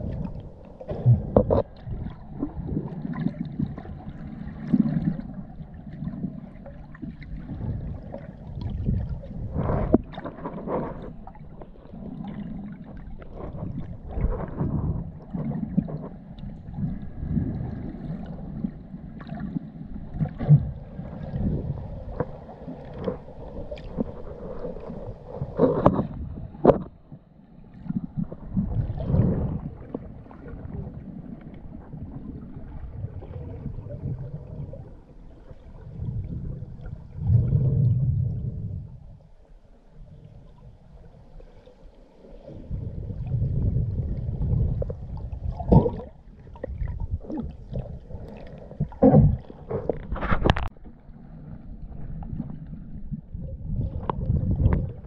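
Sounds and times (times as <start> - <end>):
muffled underwater rumbling: 0.0 - 55.0.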